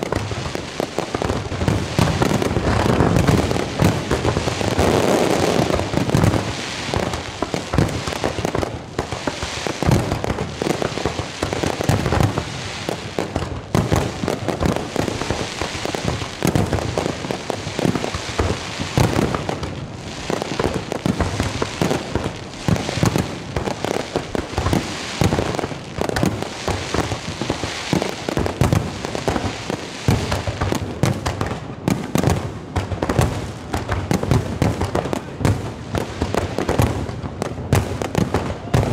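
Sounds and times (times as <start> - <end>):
fireworks crackling: 0.0 - 38.9.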